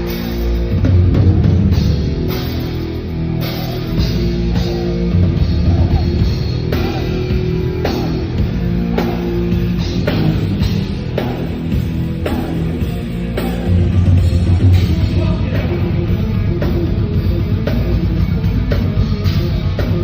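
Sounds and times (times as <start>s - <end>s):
bass and drums: 0.0s - 20.0s
distorted electric guitar riffing: 0.0s - 20.0s.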